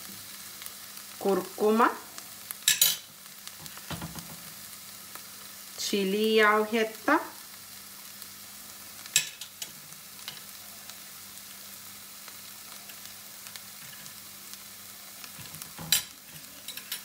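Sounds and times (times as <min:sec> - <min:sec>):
spice paste sizzling in pan: 0:00.0 - 0:17.0.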